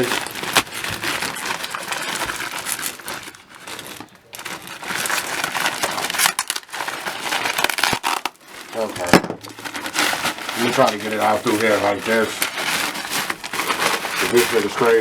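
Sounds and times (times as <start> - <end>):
cardboard box being torn open: 0.0 - 15.0.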